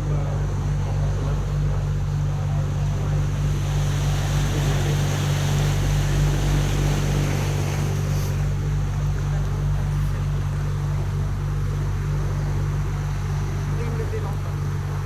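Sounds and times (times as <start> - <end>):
boat engine humming: 0.0 - 15.0
water noise: 0.0 - 15.0.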